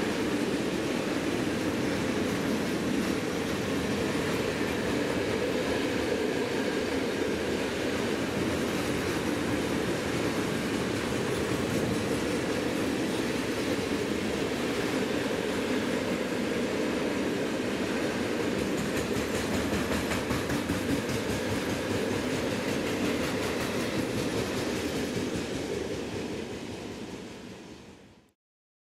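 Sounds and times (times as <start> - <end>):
wheels clacking on rails: 0.0 - 27.3
freight train rumbling past: 0.0 - 28.3.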